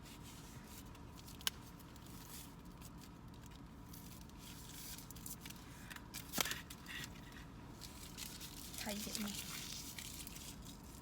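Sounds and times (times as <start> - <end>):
packaging rustling and crinkling: 0.2 - 11.0.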